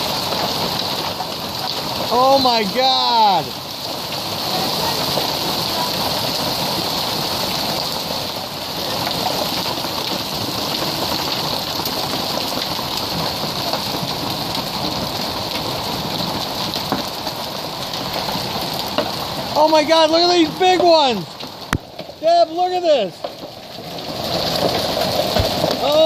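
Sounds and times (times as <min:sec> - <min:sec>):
hail falling on patio: 0:00.0 - 0:26.0.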